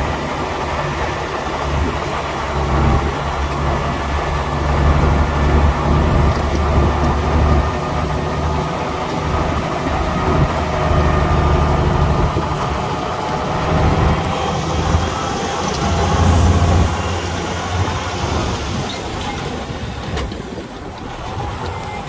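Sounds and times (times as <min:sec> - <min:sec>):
heavy machinery diesel engine drone: 0:00.0 - 0:21.9.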